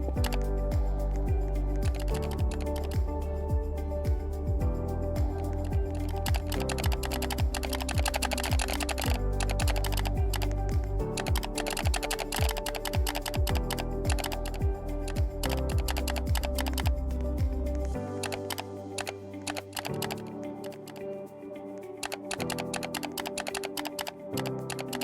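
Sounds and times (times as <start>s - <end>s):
background music with steady beat: 0.0s - 25.0s
fast typing on keyboard: 1.0s - 3.3s, 5.3s - 21.0s, 22.0s - 25.0s.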